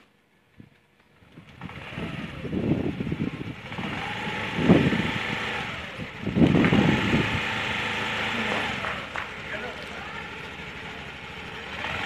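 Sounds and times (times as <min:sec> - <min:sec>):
scooter engine revving: 0:01.4 - 0:12.0.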